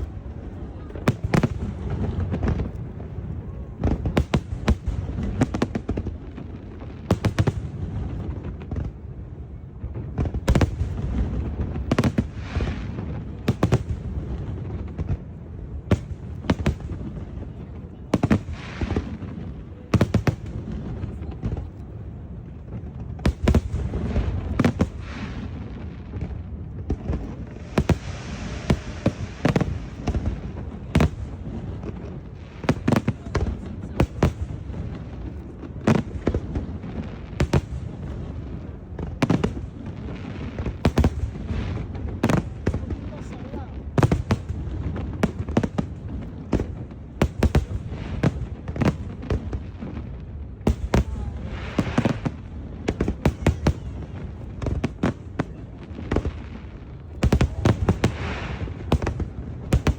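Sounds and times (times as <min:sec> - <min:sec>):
hissing crackle of fireworks: 0:00.0 - 0:59.9.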